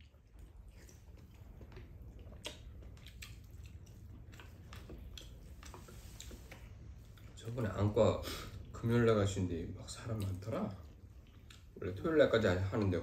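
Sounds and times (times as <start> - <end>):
chewing: 0.0 - 8.9, 9.8 - 13.0
low steady hum: 0.0 - 13.0.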